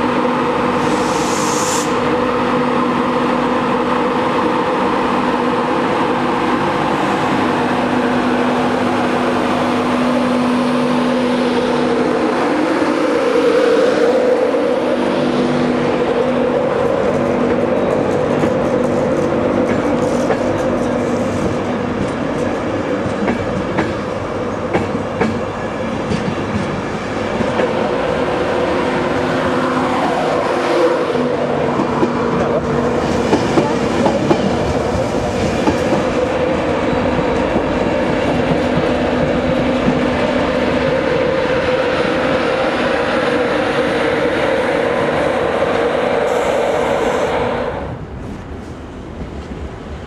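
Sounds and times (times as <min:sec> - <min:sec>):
train coaches rumbling past: 0:00.0 - 0:50.0.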